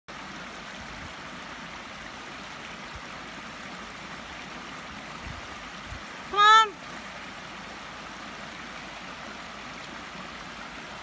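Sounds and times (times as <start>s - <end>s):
water rushing over a weir: 0.1s - 11.0s.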